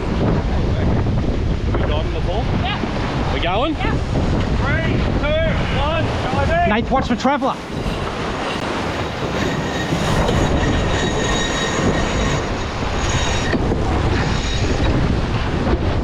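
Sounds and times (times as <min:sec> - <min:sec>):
rush of wind and water: 0:00.0 - 0:16.0.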